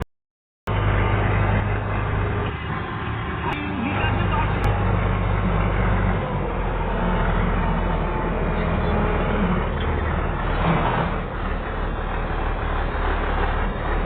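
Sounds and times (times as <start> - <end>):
combine harvester running: 0.7 - 14.0.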